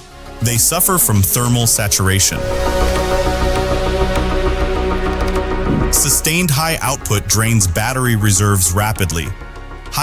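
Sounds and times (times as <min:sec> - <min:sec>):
synth music with bass pulse: 0:00.0 - 0:10.0.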